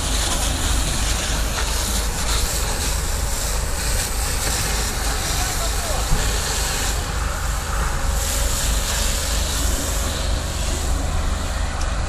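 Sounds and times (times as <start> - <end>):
continuous low rumble: 0.0 - 12.0
fire hose water jet spraying: 0.0 - 12.0.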